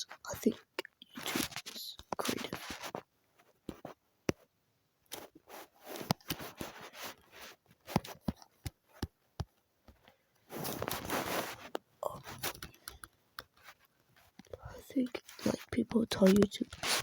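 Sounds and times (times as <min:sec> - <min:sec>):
rustling: 0:01.1 - 0:04.0, 0:05.1 - 0:09.0, 0:10.0 - 0:17.0.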